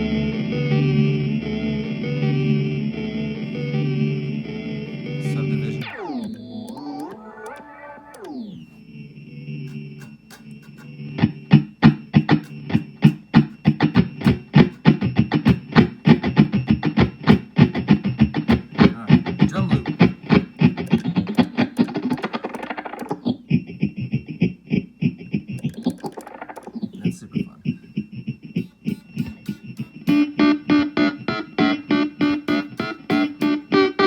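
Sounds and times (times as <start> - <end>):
electric guitar with echoing delay: 0.0 - 7.8, 9.2 - 23.3, 28.5 - 34.0
high whine: 0.0 - 34.0.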